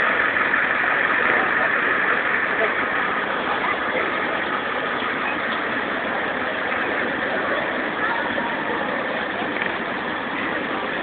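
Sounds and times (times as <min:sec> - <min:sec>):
crowd voices: 0:00.0 - 0:11.0
street noise: 0:00.0 - 0:11.0
truck engine running at low speed: 0:00.0 - 0:11.0.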